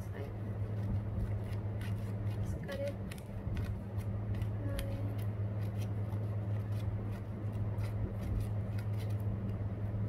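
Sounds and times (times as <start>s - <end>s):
steady low hum: 0.0s - 10.0s
scissors snipping paper: 0.1s - 9.6s.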